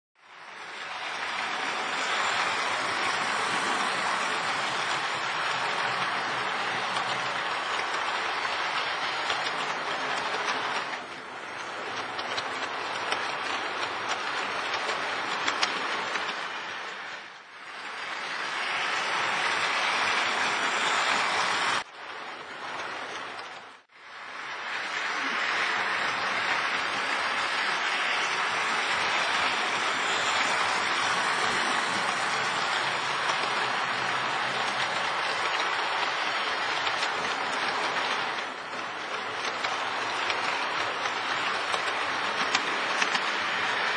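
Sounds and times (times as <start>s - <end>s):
model train running on track: 0.2s - 43.9s.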